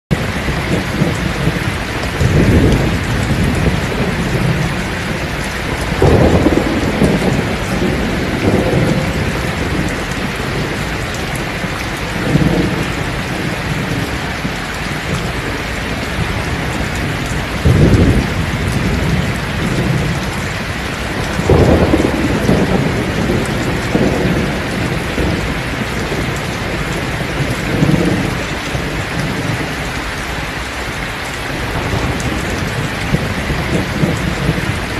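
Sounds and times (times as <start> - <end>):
heavy rain on a thatched roof: 0.1 - 34.9
thunder rumbling: 0.1 - 34.9.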